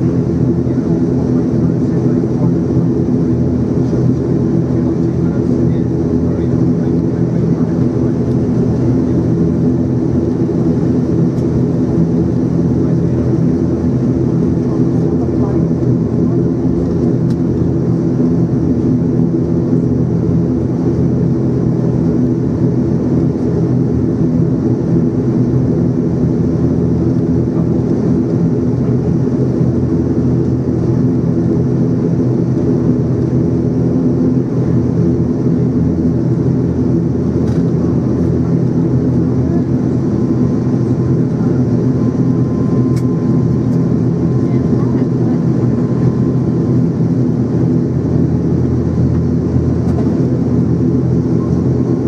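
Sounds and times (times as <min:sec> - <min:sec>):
turboprop engines droning in cabin: 0:00.0 - 0:52.0.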